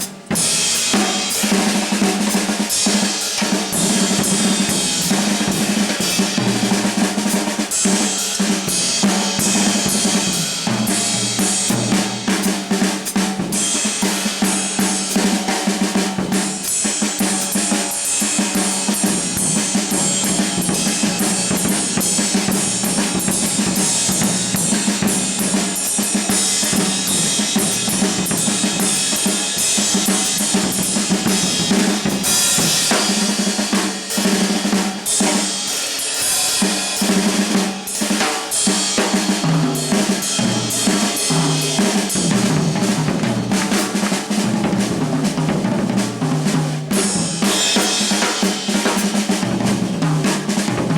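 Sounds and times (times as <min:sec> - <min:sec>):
jazz drum kit: 0:00.0 - 0:50.9.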